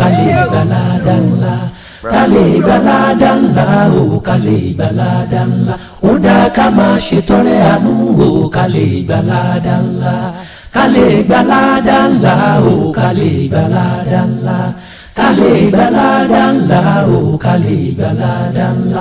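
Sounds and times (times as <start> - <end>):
unaccompanied voices chanting: 0.0 - 19.0.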